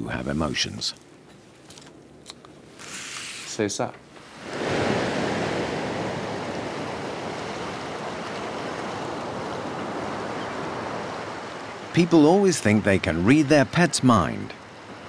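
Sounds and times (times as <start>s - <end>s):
waves breaking on a beach: 2.6s - 15.0s.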